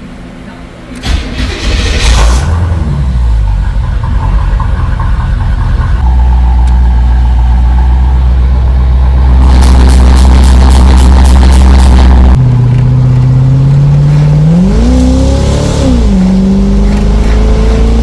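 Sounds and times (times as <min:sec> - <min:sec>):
car engine idling: 0:01.0 - 0:18.0.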